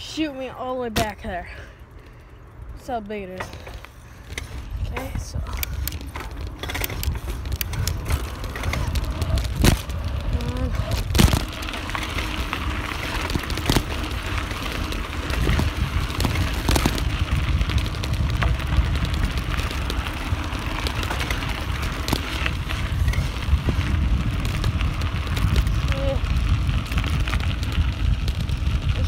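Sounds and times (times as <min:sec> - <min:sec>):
bicycle tyre noise: 0:00.0 - 0:29.0
bike rattles and knocks: 0:00.7 - 0:01.7, 0:02.8 - 0:29.0
wind rumble on microphone: 0:03.5 - 0:29.0.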